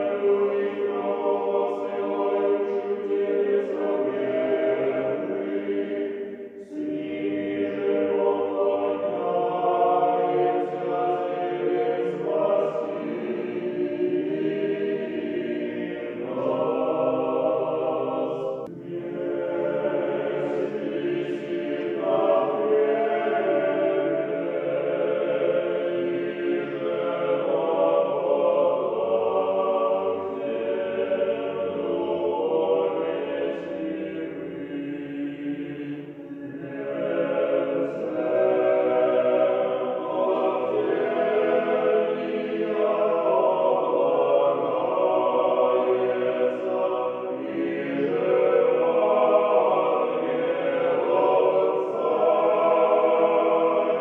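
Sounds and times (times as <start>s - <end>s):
choir singing a slow chant: 0.0s - 54.0s.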